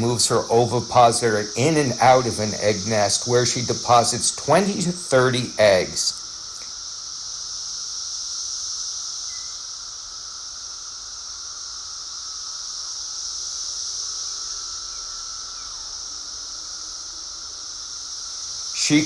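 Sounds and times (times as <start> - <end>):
cicadas chorusing: 0.0 - 19.0.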